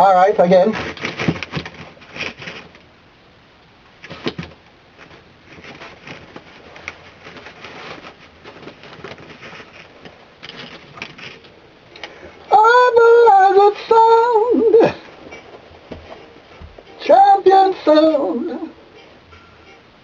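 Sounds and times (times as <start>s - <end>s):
faint noise: 0.0s - 20.0s.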